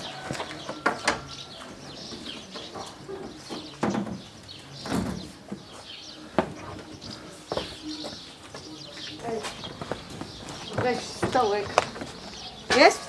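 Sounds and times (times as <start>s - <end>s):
birds chirping and cooing: 0.0s - 13.0s.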